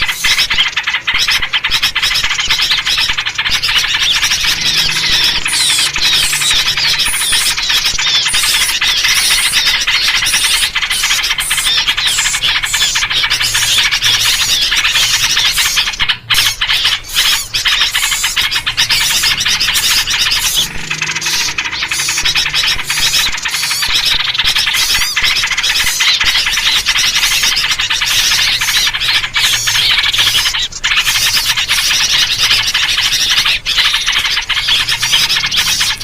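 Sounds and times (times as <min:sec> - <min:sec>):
songbirds chirping and squeaking: 0:00.0 - 0:36.0.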